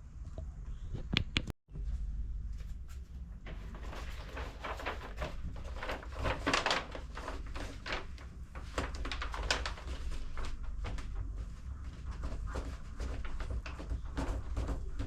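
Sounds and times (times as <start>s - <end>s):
steady low hum: 0.0s - 15.0s
scrapes rustles and knocks: 2.5s - 15.0s.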